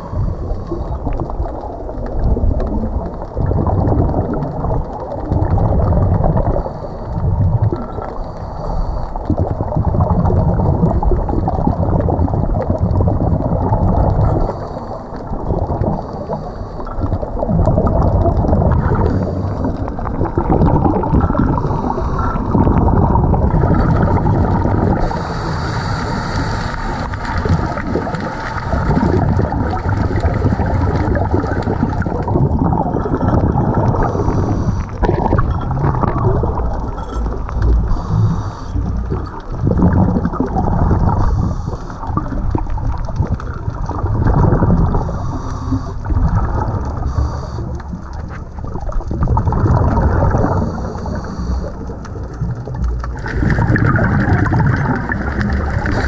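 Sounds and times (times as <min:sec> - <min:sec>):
muffled underwater rush of water: 0:00.0 - 0:56.0
scuba breathing and exhaled bubbles: 0:00.0 - 0:56.0.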